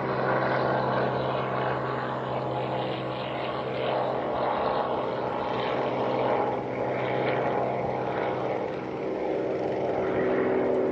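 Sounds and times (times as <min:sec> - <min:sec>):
helicopter flying away: 0:00.0 - 0:10.9.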